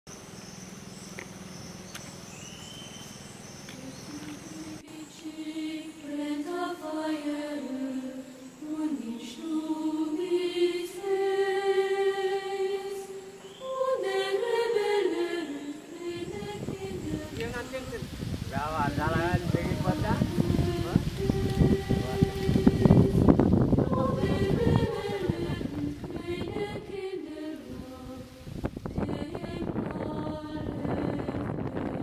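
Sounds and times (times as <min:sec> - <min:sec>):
steady hum: 0:00.1 - 0:32.0
singing with sliding held notes: 0:03.7 - 0:32.0.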